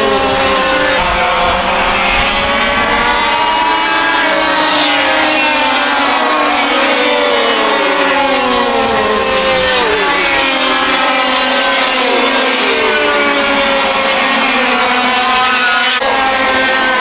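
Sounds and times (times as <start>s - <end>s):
kart engines revving: 0.0s - 17.0s.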